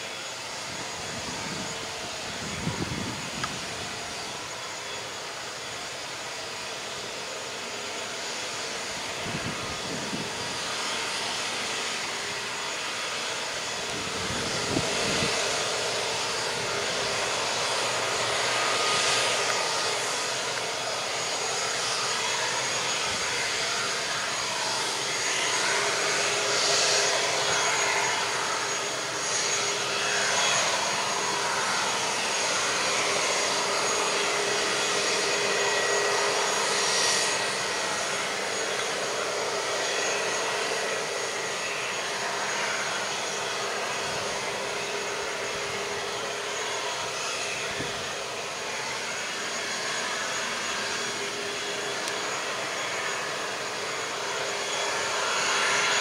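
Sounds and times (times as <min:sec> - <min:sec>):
jet engines whining at taxi: 0:00.0 - 0:56.0.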